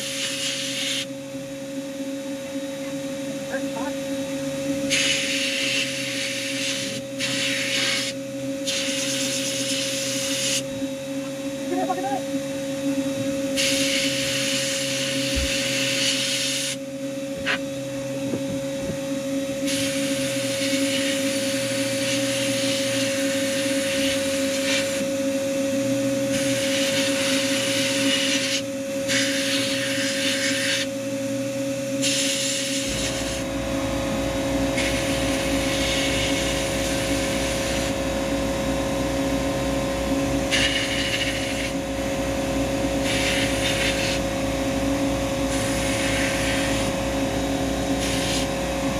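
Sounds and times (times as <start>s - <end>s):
steady hum: 0.0s - 48.9s.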